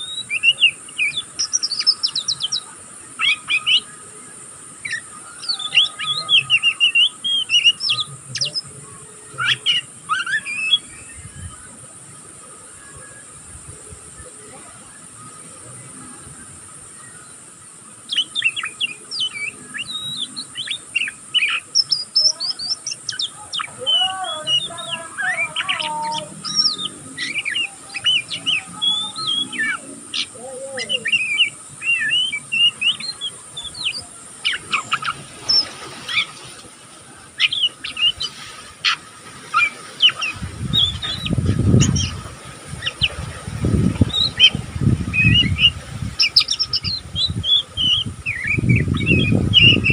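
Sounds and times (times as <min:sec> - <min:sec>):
bird twittering and chirping: 0:00.0 - 0:36.6, 0:37.2 - 0:49.9.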